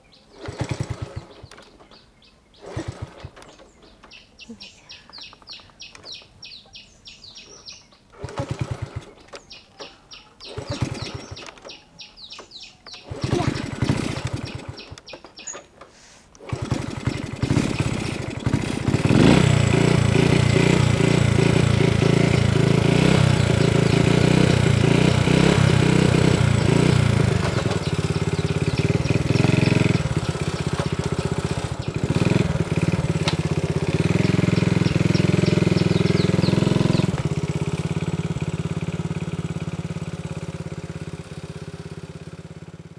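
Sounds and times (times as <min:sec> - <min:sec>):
motorbike engine revving: 0:00.2 - 0:04.2, 0:07.4 - 0:15.4, 0:16.4 - 0:42.9
motorbike kick-start: 0:00.2 - 0:04.4, 0:05.0 - 0:42.9.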